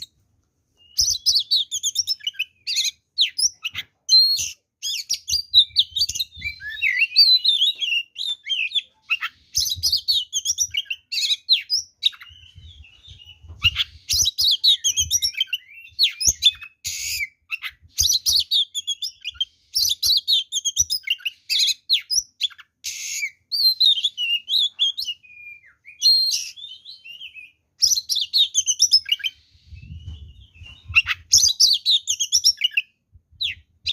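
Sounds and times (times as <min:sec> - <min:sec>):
songbird whistles chirps and trills: 0:00.0 - 0:33.9.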